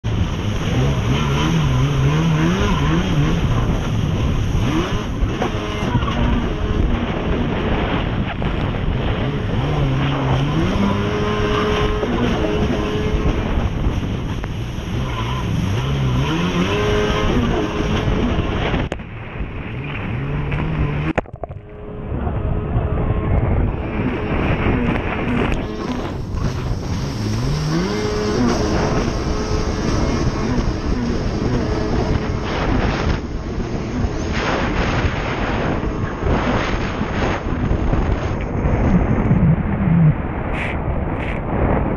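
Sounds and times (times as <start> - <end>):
jet ski engine running hard: 0.0 - 41.9
water spray and wind rushing: 0.0 - 41.9.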